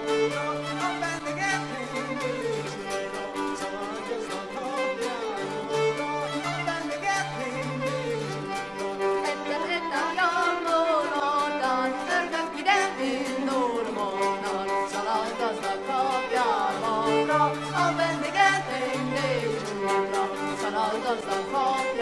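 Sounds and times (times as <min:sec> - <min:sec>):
fiddle: 0:00.0 - 0:22.0
person singing: 0:00.0 - 0:22.0.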